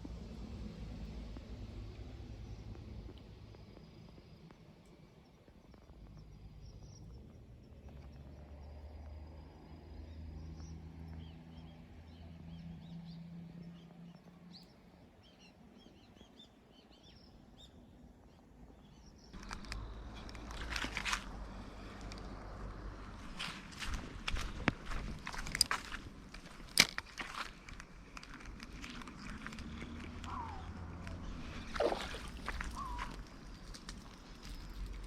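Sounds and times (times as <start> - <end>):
small birds chirping: 2.4 - 22.1, 24.4 - 35.0.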